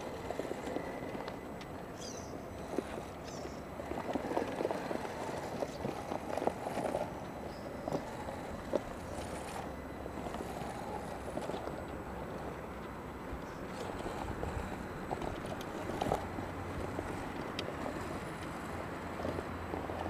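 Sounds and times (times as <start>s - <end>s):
rc car drivetrain whirr: 0.0s - 20.0s
tyres scrabbling on rock: 0.1s - 20.0s.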